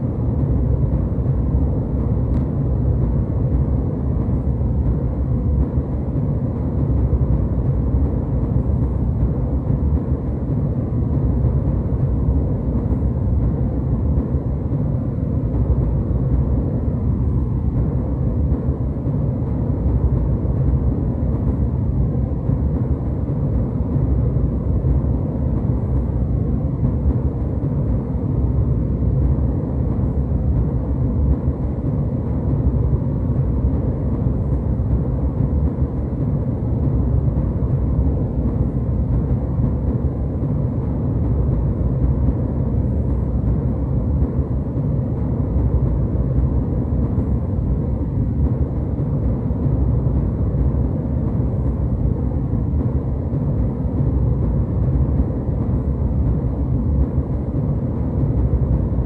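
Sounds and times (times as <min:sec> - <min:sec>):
jet airliner cabin rumble: 0:00.0 - 0:59.0.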